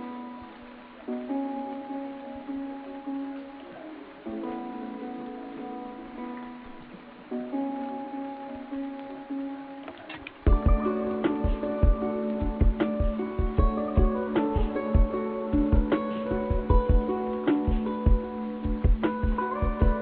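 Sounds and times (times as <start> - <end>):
plucked guitar-like instrumental music: 0.0 - 20.0.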